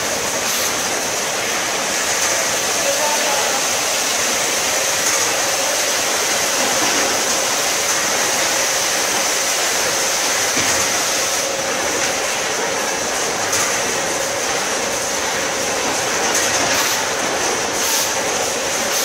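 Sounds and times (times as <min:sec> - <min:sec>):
packing machine running: 0:00.0 - 0:19.0.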